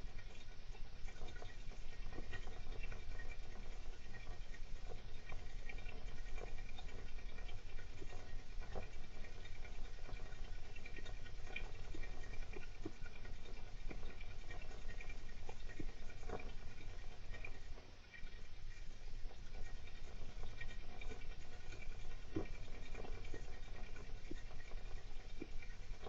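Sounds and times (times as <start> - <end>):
hamster scratching and rustling: 0.0 - 26.0.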